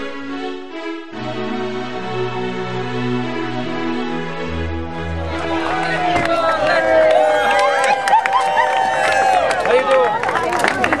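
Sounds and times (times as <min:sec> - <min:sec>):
music of long held notes: 0:00.0 - 0:09.5.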